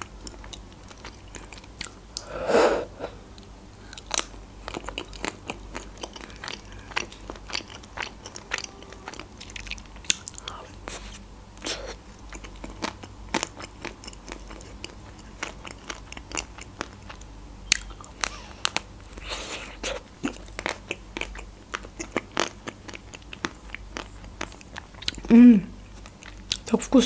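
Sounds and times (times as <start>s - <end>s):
chewing ice cream bar: 0.0s - 2.3s, 3.4s - 26.9s.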